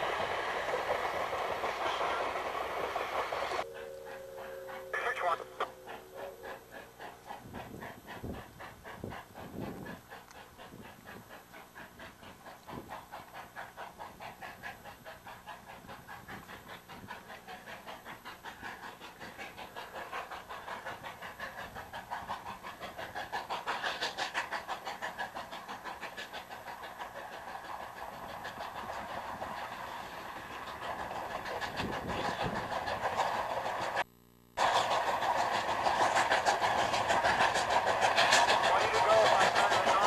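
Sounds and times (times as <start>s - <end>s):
steam locomotive exhaust chuffing: 0.0s - 40.0s.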